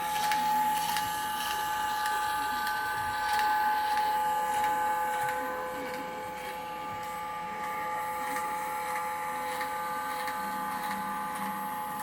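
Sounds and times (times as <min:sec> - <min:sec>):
machine motor whine: 0:00.0 - 0:12.0.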